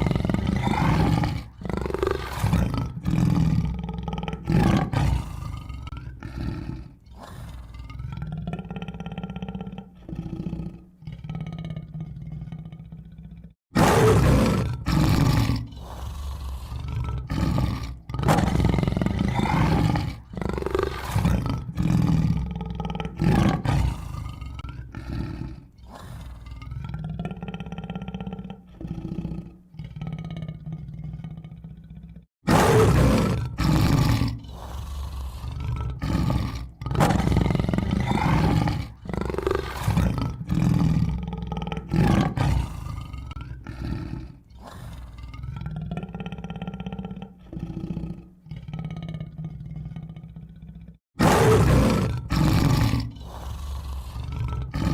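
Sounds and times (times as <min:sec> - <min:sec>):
tiger roaring and growling: 0:00.0 - 0:54.9.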